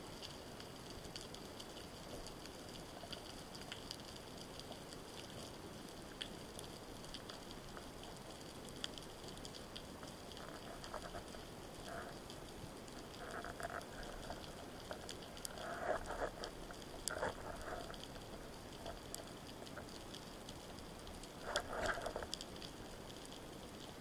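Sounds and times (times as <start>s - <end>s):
faint steady underwater hiss: 0.0s - 24.0s
sharp clicks and crackles: 0.1s - 24.0s
rushes of water: 0.2s - 24.0s.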